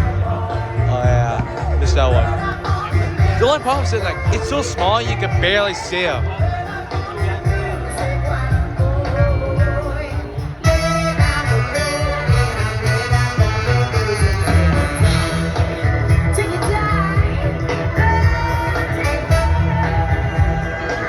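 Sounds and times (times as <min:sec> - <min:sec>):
heavy pulsing bass beat: 0:00.0 - 0:21.0
music with singing: 0:00.0 - 0:21.0.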